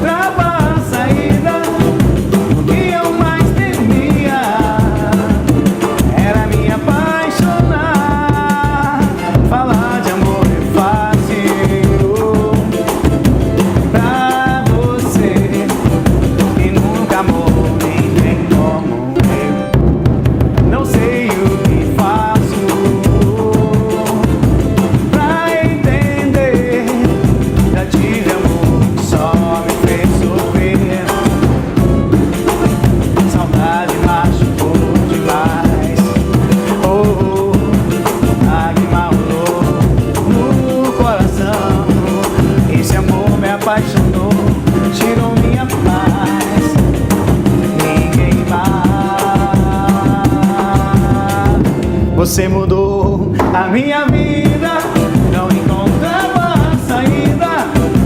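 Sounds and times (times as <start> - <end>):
band playing samba beat: 0.0 - 58.0
steady held notes: 0.0 - 58.0.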